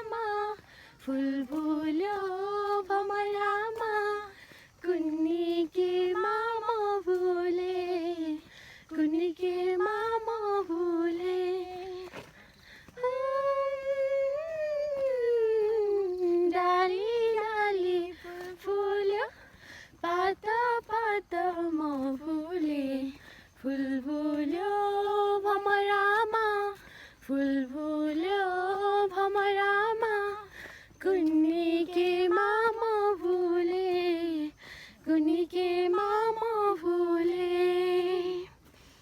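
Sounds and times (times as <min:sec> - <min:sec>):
woman singing unaccompanied: 0:00.0 - 0:38.8.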